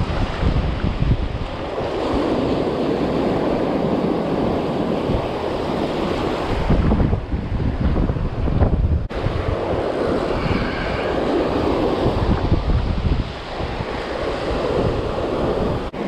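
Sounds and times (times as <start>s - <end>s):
surf washing over shallows: 0.0s - 16.0s
wind buffeting microphone: 0.0s - 16.0s.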